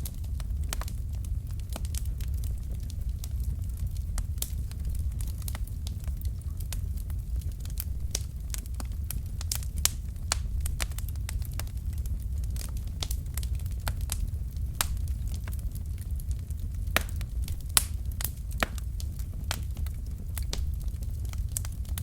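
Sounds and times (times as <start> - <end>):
burning wood popping and snapping: 0.0 - 22.0
low rumble of flames: 0.0 - 22.0.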